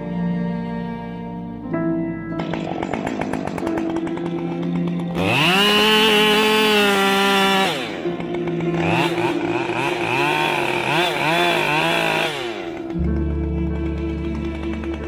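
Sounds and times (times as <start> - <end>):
chainsaw idling and revving: 2.4 - 15.0.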